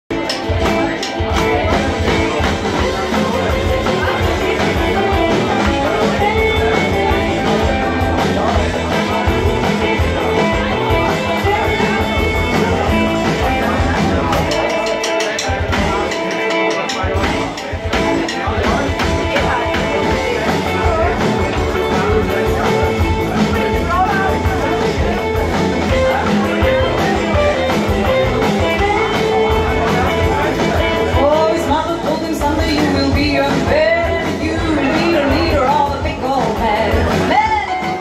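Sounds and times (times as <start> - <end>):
live band with electric guitars: 0.1 - 38.0.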